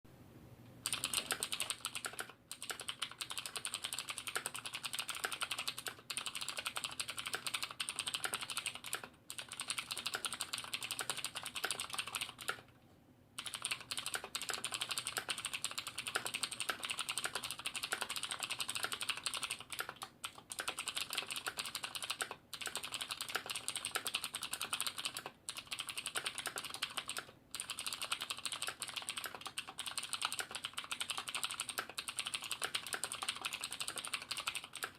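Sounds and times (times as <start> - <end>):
fast mechanical keyboard typing: 0.8 - 12.7, 13.4 - 34.9.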